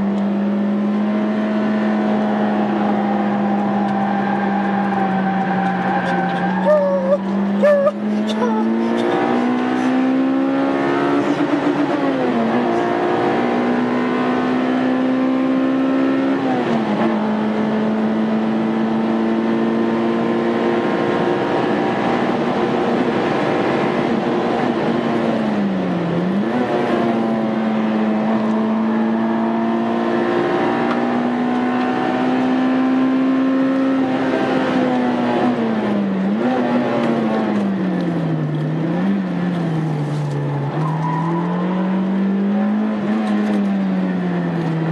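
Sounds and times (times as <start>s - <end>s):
car engine revving high: 0.0s - 44.9s.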